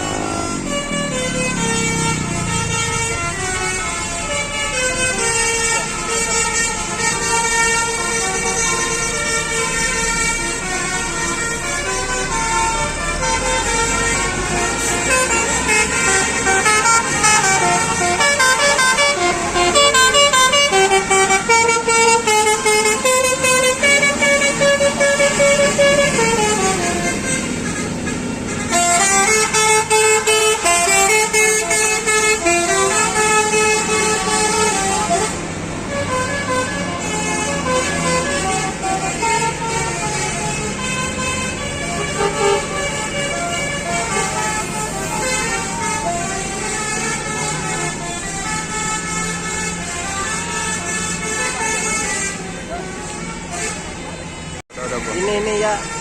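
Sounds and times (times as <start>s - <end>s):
bus horns playing melodies: 0.0s - 56.0s.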